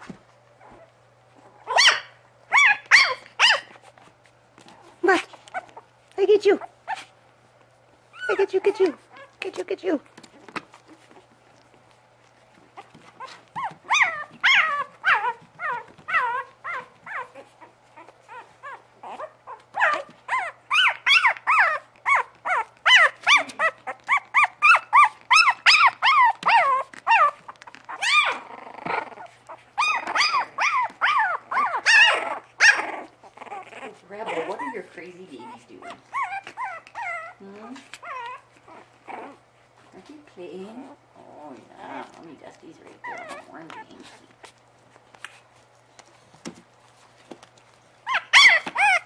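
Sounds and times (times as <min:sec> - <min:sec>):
puppies whimpering and yelping: 0:00.0 - 0:04.1, 0:04.9 - 0:07.3, 0:08.0 - 0:09.6, 0:10.2 - 0:49.0.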